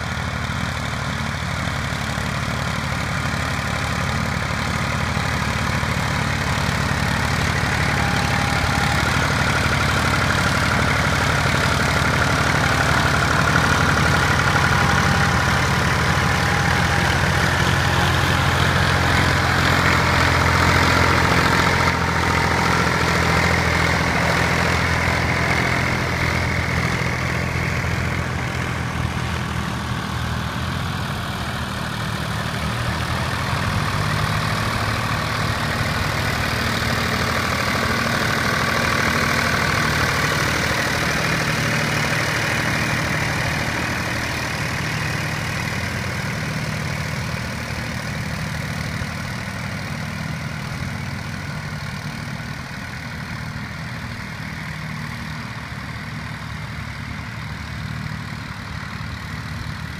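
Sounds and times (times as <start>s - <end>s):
tractor diesel engines running: 0.0s - 59.9s.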